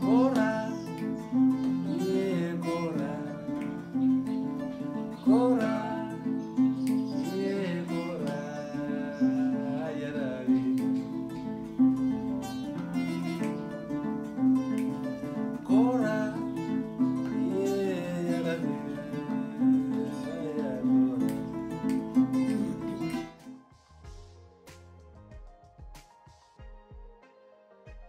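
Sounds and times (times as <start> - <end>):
person singing: 0.0 - 14.0, 14.8 - 23.5
acoustic guitar picking: 0.0 - 23.6.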